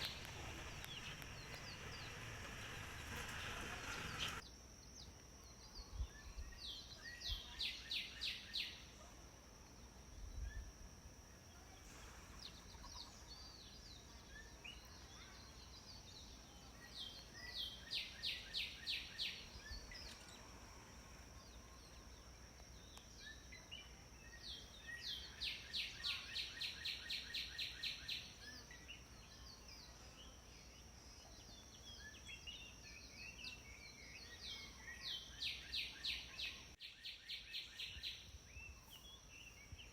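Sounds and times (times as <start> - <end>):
sparrows chirping: 0.0 - 8.8, 12.4 - 39.9.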